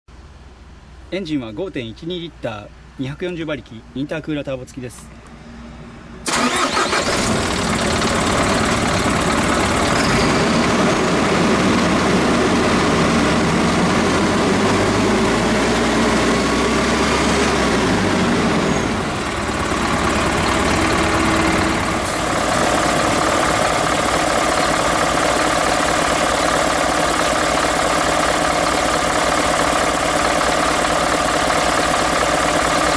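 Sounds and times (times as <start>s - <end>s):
diesel truck engine idling: 6.2s - 32.9s.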